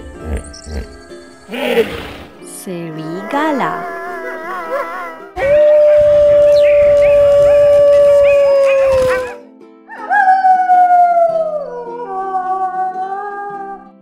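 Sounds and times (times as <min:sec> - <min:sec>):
soft background music: 0:00.0 - 0:14.0
wolf howling: 0:00.0 - 0:14.0.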